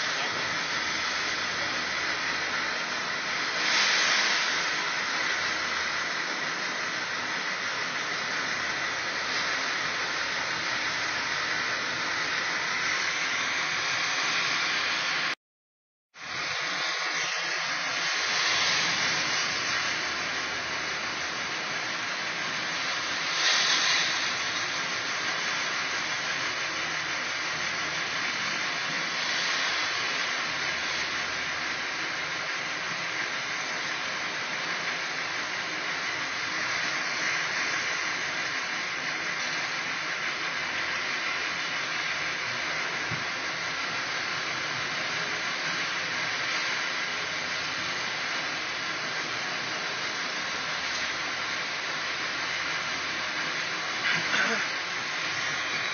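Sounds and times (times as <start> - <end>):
hissing machinery noise: 0.0 - 15.4, 16.2 - 55.9.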